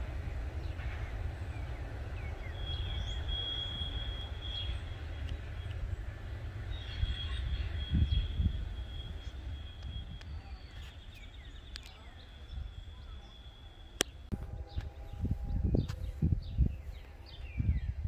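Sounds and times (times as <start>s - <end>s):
wind buffeting microphone: 0.0s - 12.9s, 14.2s - 18.0s
steady high whine: 0.0s - 17.2s
birds chirping: 0.3s - 18.0s.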